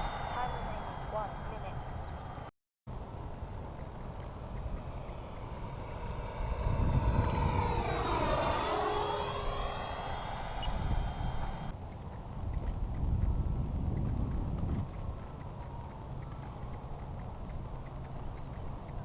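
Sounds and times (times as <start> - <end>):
electric ducted fan jet whine: 0.0 - 16.8.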